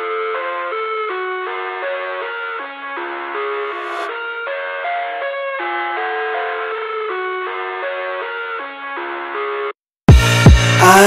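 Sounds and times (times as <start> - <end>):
intro music held notes: 0.0 - 9.4.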